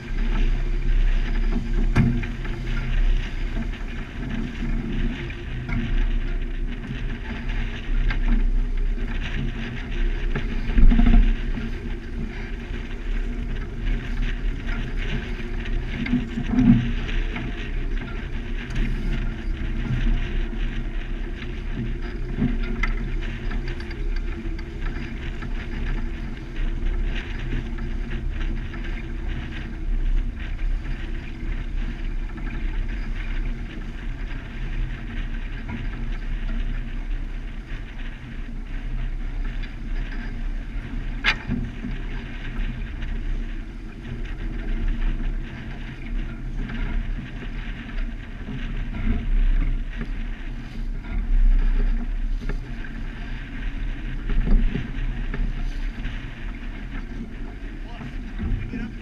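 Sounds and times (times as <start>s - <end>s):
low rumble: 0.0s - 59.0s
water rushing along hull: 0.0s - 59.0s.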